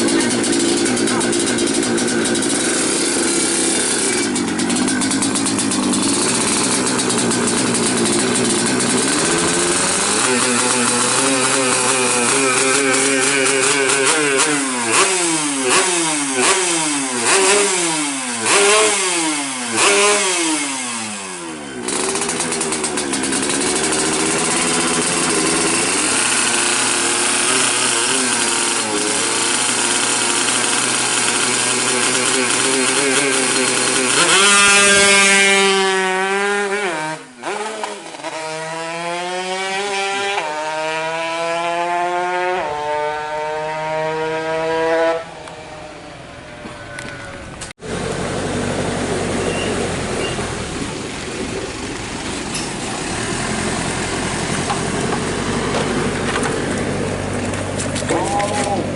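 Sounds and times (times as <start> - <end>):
two-stroke engine revving: 0.0 - 58.9.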